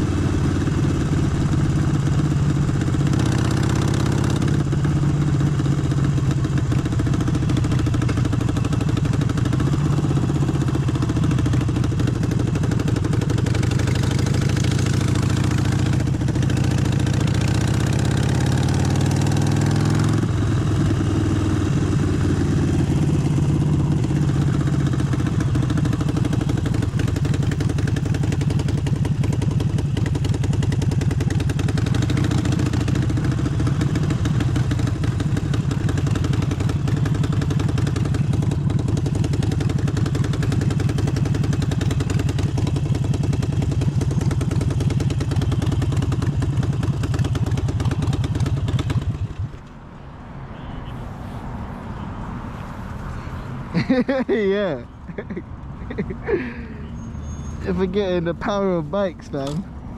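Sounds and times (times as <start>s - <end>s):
motorcycle engine running: 0.0s - 49.8s, 53.7s - 59.9s.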